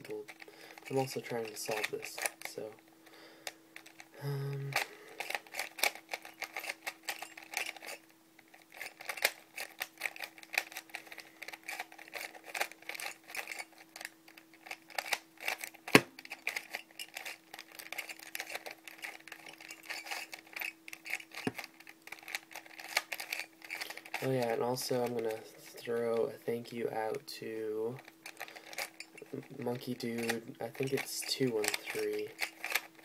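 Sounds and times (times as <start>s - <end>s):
puzzle cube plastic clicks: 0.0s - 25.5s, 27.9s - 33.0s
faint steady hum: 0.0s - 33.0s.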